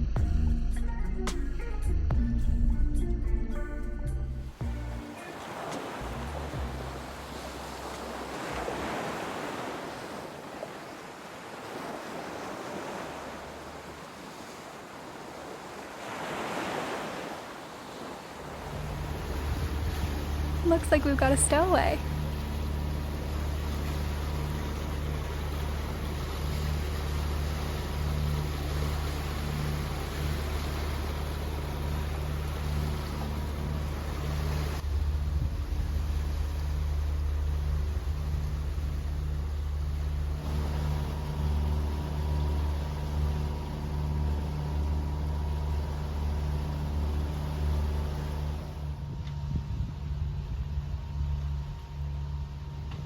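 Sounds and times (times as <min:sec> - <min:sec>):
boat diesel engine droning: 0:04.1 - 0:11.0, 0:11.6 - 0:16.4, 0:17.4 - 0:53.0
wind and water hiss: 0:04.6 - 0:53.0.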